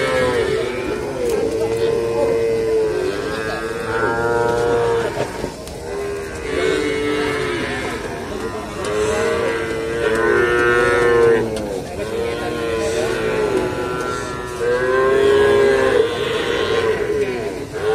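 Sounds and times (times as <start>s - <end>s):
calves mooing: 0.0s - 17.9s.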